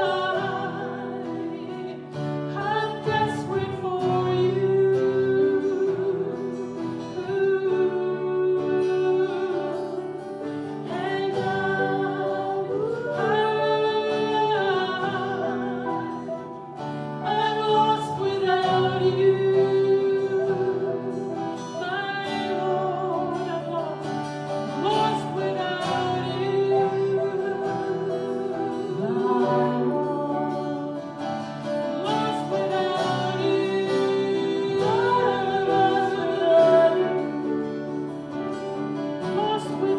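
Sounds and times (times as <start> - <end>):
person singing: 0.0 - 39.9.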